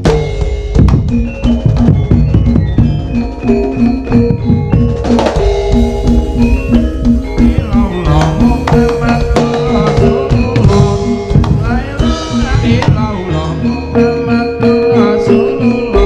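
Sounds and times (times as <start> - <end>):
gong-chime beat: 0.0 - 16.0
hand drums: 0.0 - 16.0
sliding wavering melody: 0.4 - 16.0.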